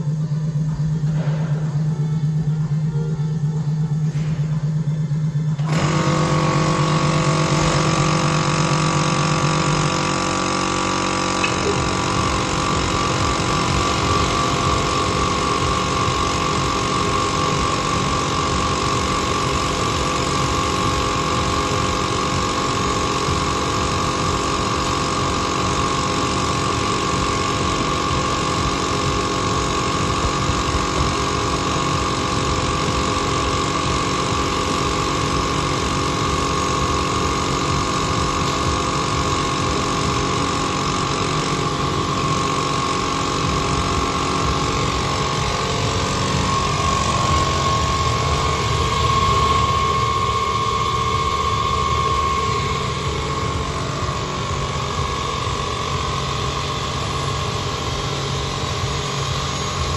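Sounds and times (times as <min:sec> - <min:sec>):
saw motors whining: 0:00.0 - 0:59.9.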